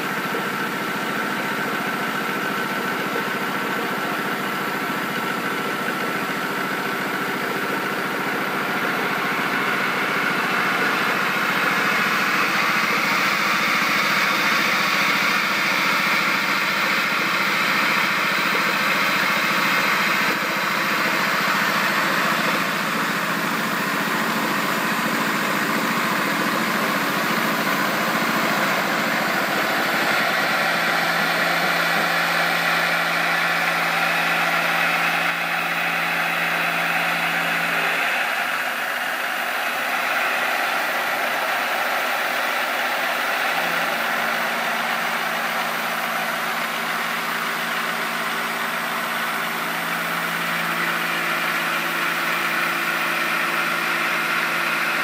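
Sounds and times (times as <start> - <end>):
milling machine motor hum: 0.0 - 55.0.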